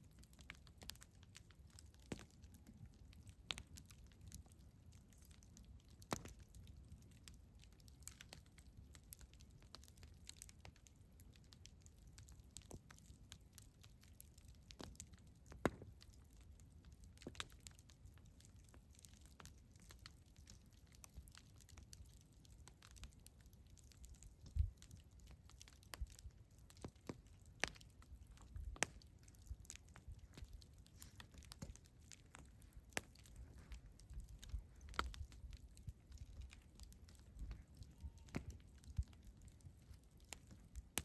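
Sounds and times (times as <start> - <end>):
campfire crackling and popping: 0.0 - 41.0
low rumble of flames: 0.0 - 41.0.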